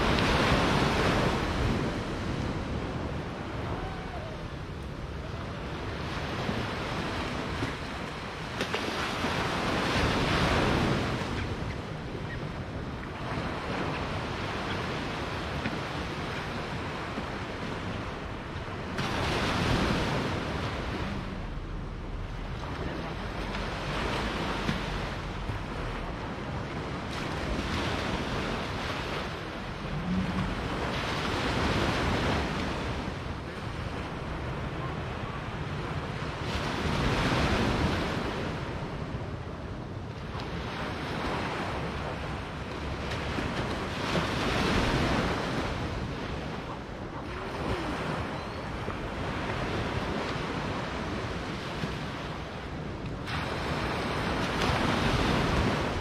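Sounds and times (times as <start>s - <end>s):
small waves breaking on sand: 0.0s - 56.0s.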